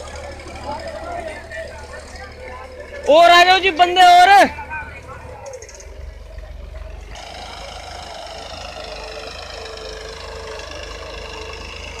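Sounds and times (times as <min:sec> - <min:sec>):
tractor engine low drone: 0:00.0 - 0:12.0.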